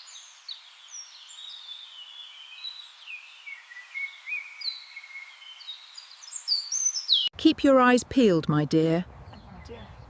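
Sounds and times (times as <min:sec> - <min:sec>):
birds singing: 0:00.0 - 0:07.4, 0:09.1 - 0:10.0.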